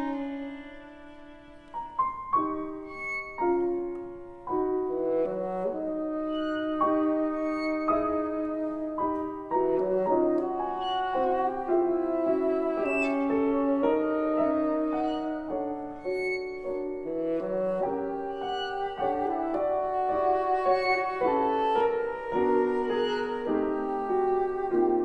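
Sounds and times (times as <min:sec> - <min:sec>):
cello: 0:00.0 - 0:25.0
piano: 0:00.0 - 0:25.0
violin: 0:00.0 - 0:25.0
bassoon: 0:03.4 - 0:25.0.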